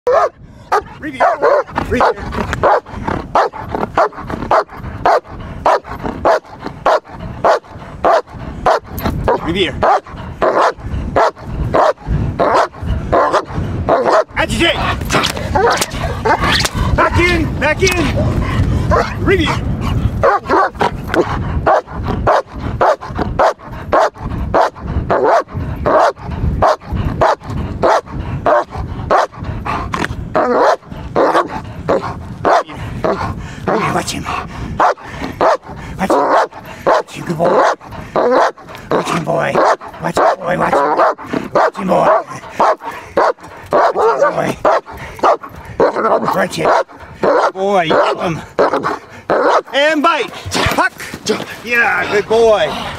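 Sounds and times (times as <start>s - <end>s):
dog barking rapidly: 0.1s - 19.6s, 20.2s - 29.4s, 30.4s - 50.9s.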